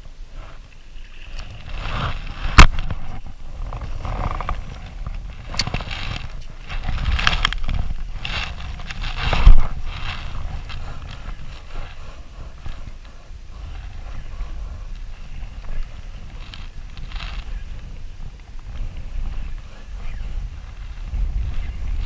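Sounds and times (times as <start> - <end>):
wind rumbling on microphone: 0.0 - 22.0
water splashing around kayak: 0.2 - 22.0.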